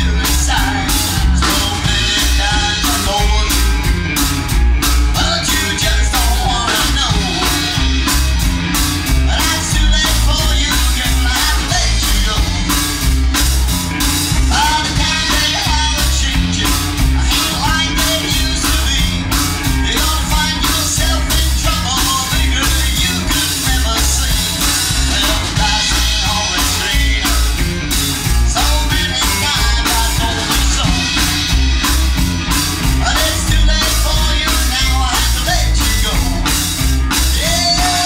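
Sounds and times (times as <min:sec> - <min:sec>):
person singing: 0:00.0 - 0:04.0, 0:04.8 - 0:08.2, 0:09.1 - 0:13.1, 0:14.4 - 0:27.7, 0:28.3 - 0:31.6, 0:32.8 - 0:38.0
rockabilly song: 0:00.0 - 0:38.0
steady drum beat: 0:00.0 - 0:38.0.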